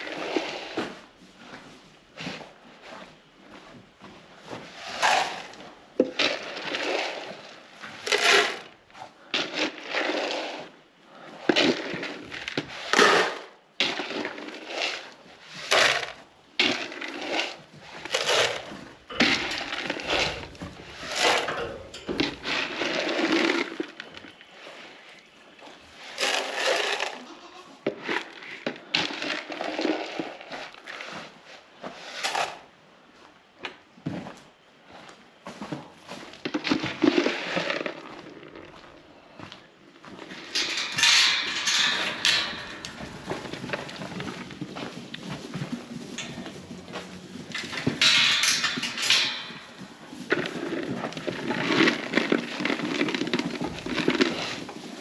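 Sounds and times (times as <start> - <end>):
animals crunching grain: 0.0 - 32.7, 35.6 - 55.0.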